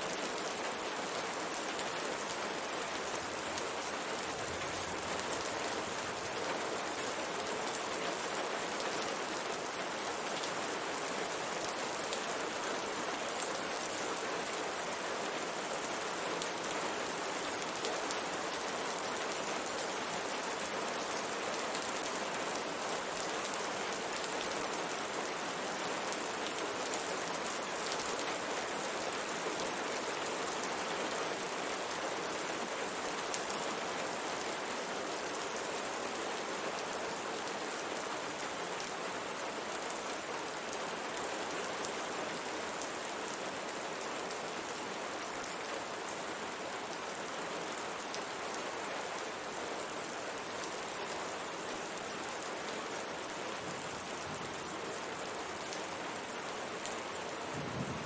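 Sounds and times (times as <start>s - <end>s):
rain on a window: 0.1s - 58.0s.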